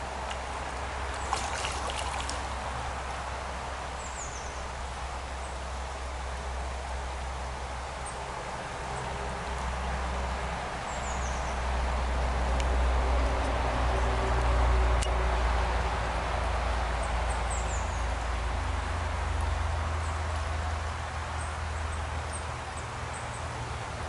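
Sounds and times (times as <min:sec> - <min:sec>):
stream flowing: 0:00.0 - 0:24.0.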